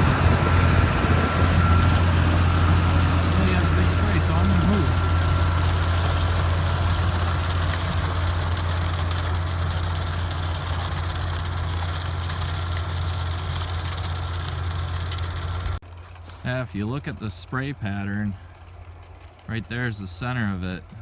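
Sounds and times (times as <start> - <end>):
manure spreader rushing noise: 0.0 - 21.0
tractor engine running: 0.0 - 21.0.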